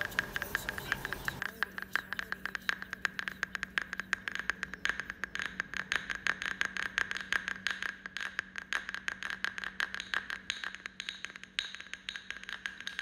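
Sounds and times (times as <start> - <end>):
faint low hum: 0.0 - 13.0
rapid rattling clicks: 0.0 - 13.0.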